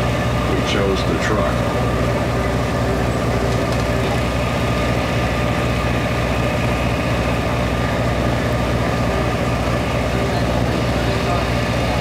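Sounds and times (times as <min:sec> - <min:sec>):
boat engine throbbing: 0:00.0 - 0:12.0.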